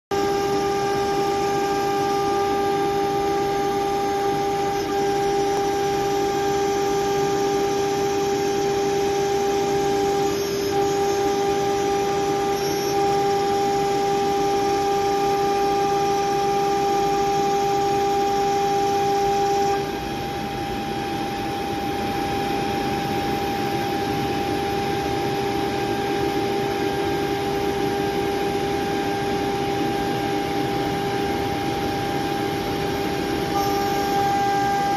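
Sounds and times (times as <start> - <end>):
cnc machine whine: 0.1 - 34.9.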